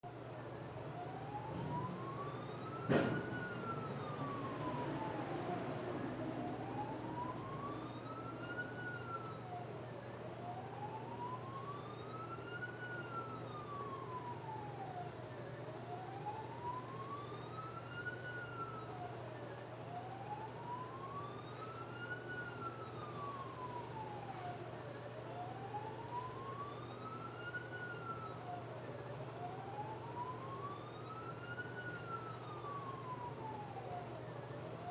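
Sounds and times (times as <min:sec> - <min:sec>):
emergency vehicle siren wailing: 0:00.0 - 0:34.9.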